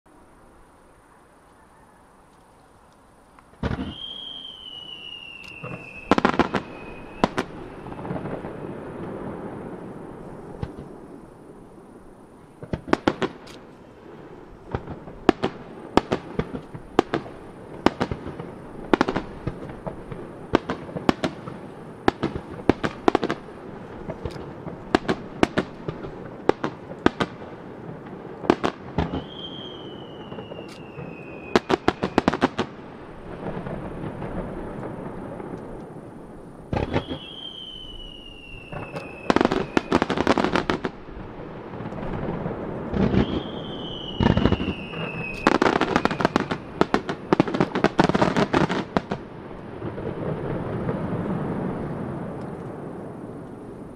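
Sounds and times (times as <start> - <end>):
firework shells bursting: 3.4 - 11.7, 12.4 - 52.9
falling firework whistles: 3.5 - 49.3.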